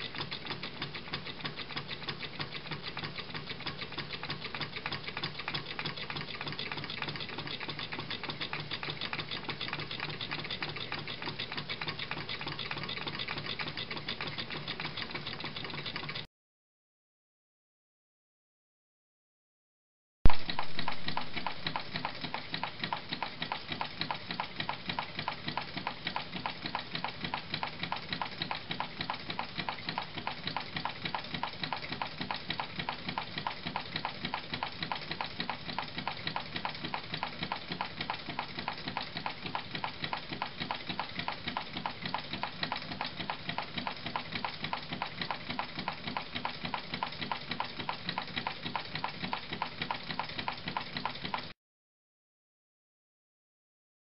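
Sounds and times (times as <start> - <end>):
small engine fast even ticking: 0.0 - 16.3, 20.3 - 51.6.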